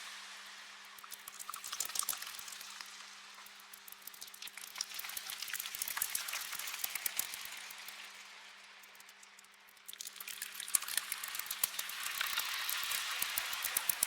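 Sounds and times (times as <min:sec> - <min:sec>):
bats squeaking and clicking: 0:01.0 - 0:08.0, 0:08.8 - 0:14.0.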